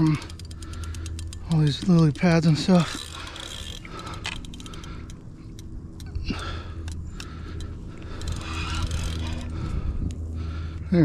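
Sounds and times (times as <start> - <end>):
fishing reel cranking: 0.0 - 9.8.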